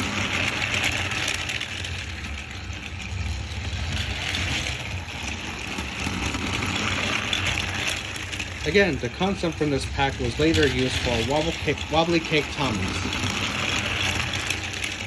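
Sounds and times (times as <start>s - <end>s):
toy train motor whirring: 0.0s - 15.0s
wheels on toy track: 0.0s - 15.0s.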